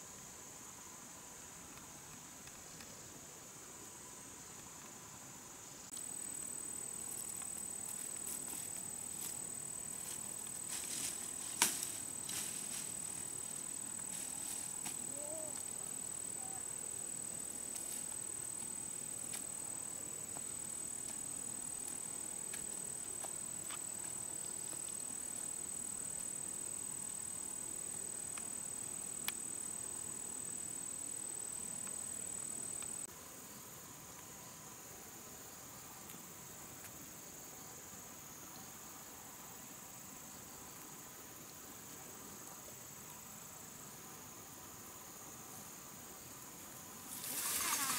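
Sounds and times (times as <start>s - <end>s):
insects droning: 0.0s - 47.9s.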